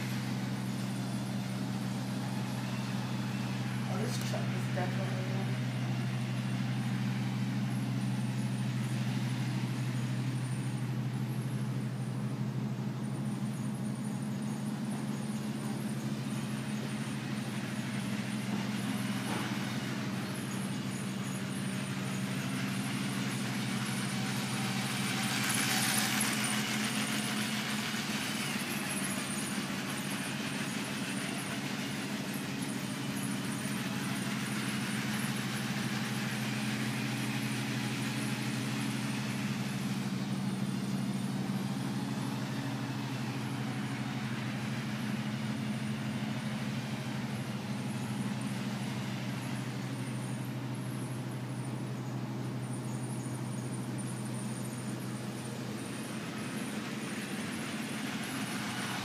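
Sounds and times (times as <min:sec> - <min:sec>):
toy train motors whining: 0:00.0 - 0:11.9, 0:13.6 - 0:59.0.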